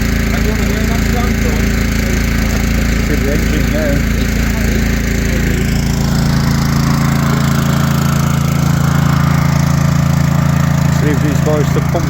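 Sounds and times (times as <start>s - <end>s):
engine-driven water pump running: 0.0s - 12.0s.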